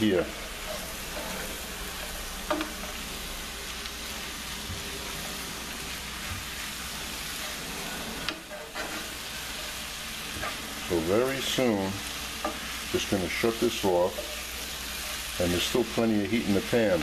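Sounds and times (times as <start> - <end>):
spinach sizzling in a skillet: 0.0 - 17.0
wooden spatula stirring: 0.0 - 17.0.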